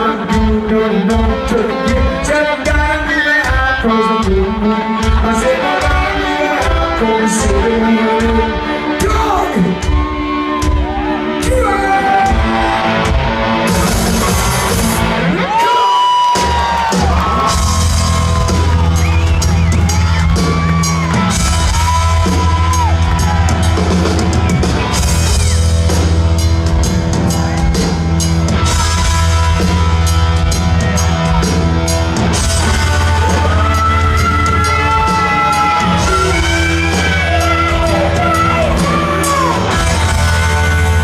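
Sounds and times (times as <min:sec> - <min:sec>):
heavy bass: 0:00.0 - 0:15.6, 0:16.4 - 0:41.0
drums: 0:00.0 - 0:41.0.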